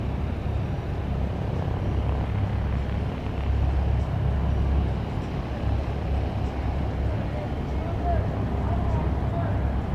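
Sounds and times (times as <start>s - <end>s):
jet engines low rumble: 0.0s - 9.9s.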